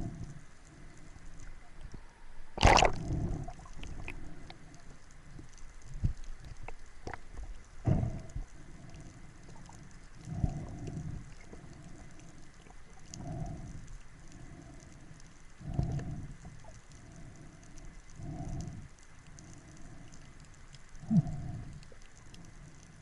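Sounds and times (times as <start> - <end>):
faint clicks and crackles: 0.0 - 23.0.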